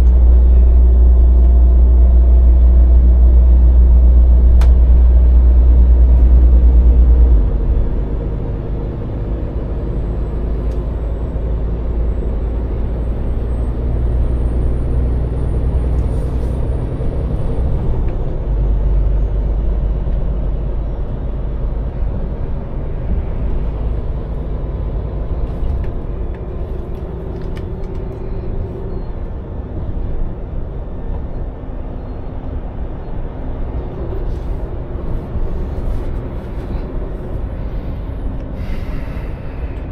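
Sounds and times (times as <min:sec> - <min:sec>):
diesel lorry engine rumbling: 0:00.0 - 0:39.9.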